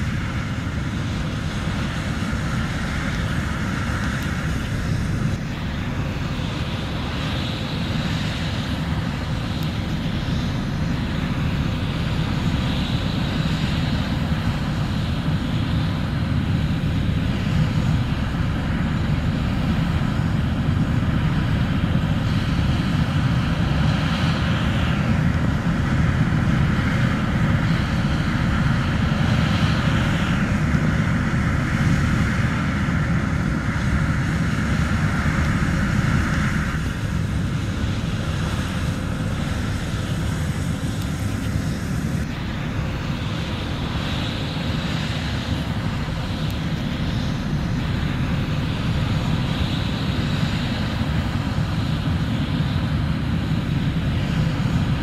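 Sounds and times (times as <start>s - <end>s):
hissy machinery noise: 0.0s - 55.0s.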